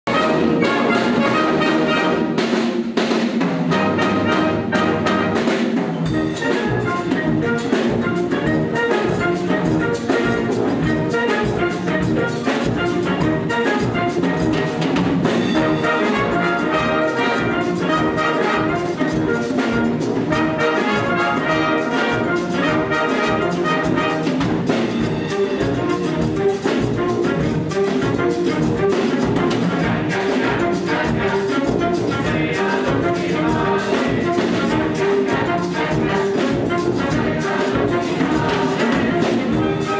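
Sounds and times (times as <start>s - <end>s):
drum kit and percussion: 0.0s - 39.9s
wind band playing: 0.0s - 39.9s.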